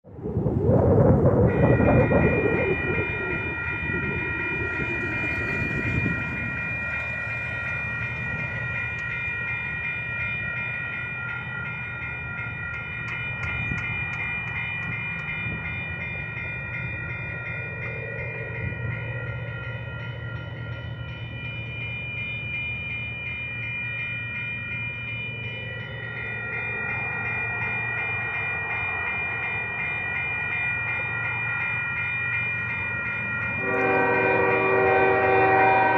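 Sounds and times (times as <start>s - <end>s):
crossing warning bell ringing: 0.4s - 35.9s.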